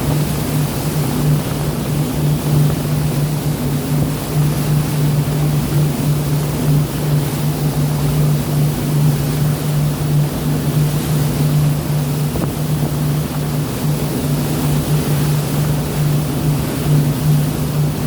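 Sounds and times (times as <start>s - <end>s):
sea rushing: 0.0s - 18.0s.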